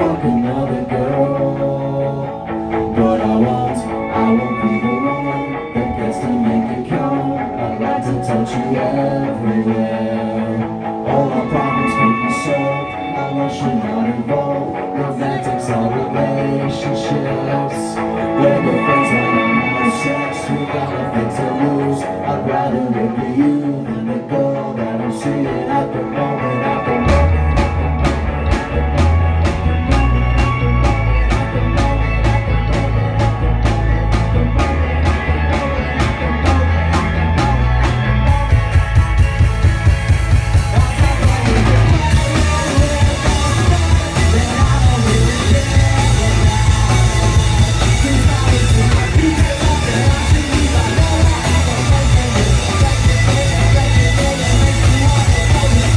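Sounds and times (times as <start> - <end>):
heavy low notes: 0.0 - 55.9
punk rock band playing: 0.0 - 55.9.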